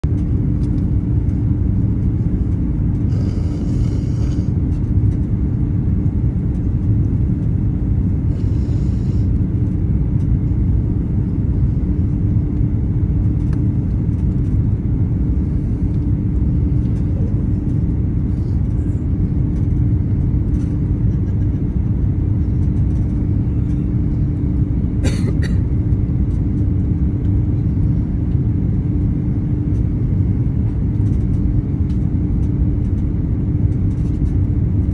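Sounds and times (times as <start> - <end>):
aircraft cabin roar: 0.0 - 34.9
steady hum: 0.0 - 34.9.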